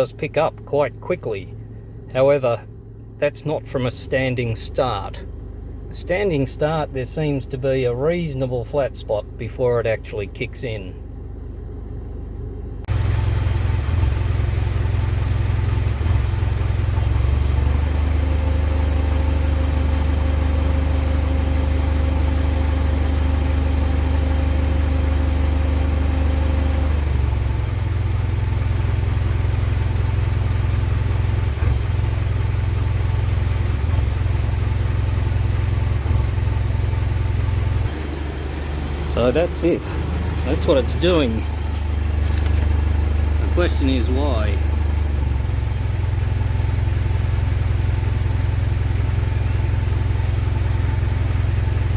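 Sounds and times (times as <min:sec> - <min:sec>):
car engine rumbling: 0:00.0 - 0:51.9.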